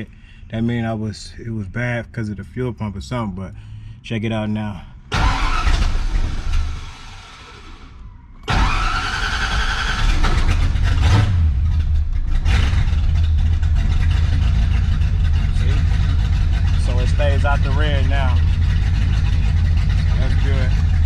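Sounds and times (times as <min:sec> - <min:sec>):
car engine starting and idling: 0:00.0 - 0:21.0.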